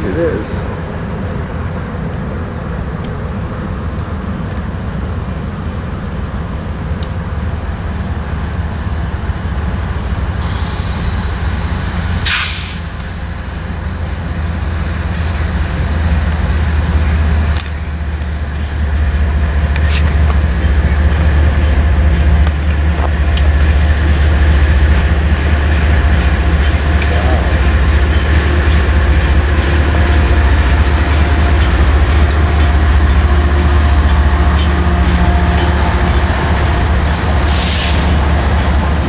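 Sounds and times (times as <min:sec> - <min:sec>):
diesel locomotives rumbling: 0:00.0 - 0:39.0.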